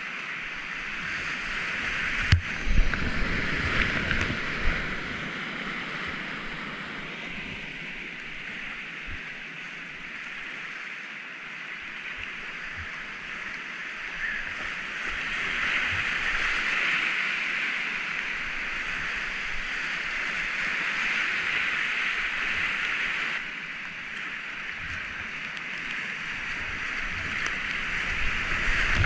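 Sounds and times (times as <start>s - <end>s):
whitewater rapids rushing: 0.0s - 29.0s.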